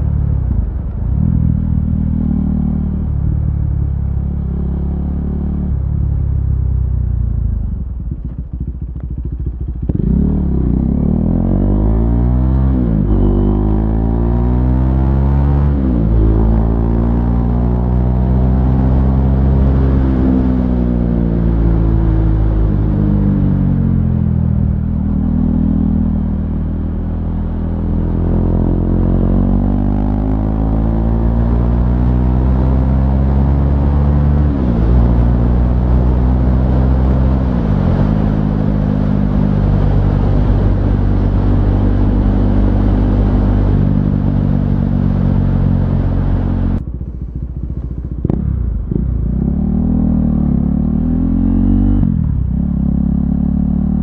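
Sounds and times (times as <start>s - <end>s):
motorcycle engine revving: 7.0s - 54.0s.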